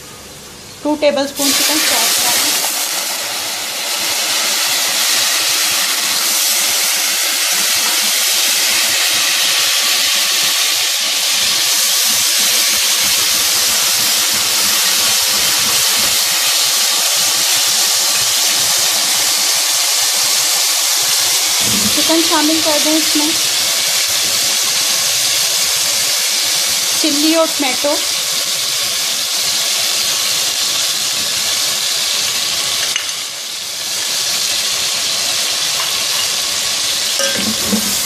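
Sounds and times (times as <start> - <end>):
oil and onions sizzling: 0.0 - 38.0
stock hissing to steam: 1.4 - 38.0.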